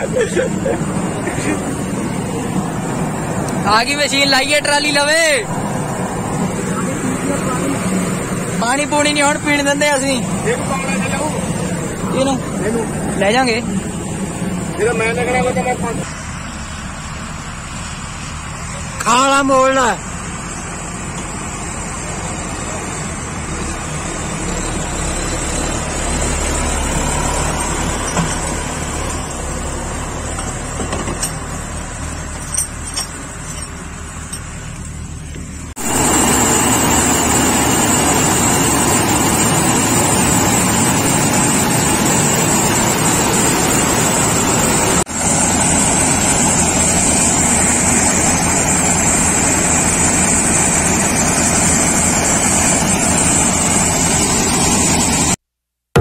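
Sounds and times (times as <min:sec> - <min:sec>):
combine harvester running: 0:00.0 - 0:55.4
tractor diesel engine running: 0:00.0 - 0:55.4.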